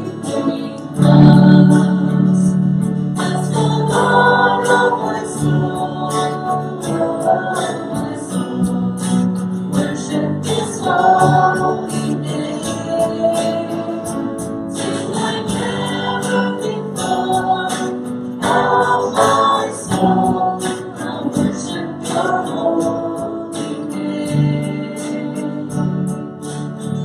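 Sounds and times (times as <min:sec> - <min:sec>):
group singing: 0:00.0 - 0:27.0
guitar accompaniment: 0:00.0 - 0:27.0.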